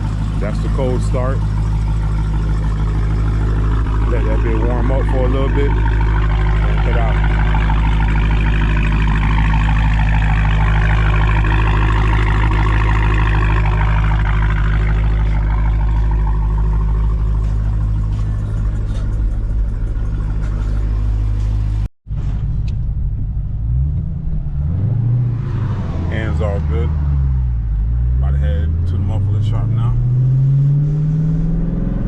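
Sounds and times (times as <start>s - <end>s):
car engine idling: 0.0s - 24.9s, 26.0s - 30.0s.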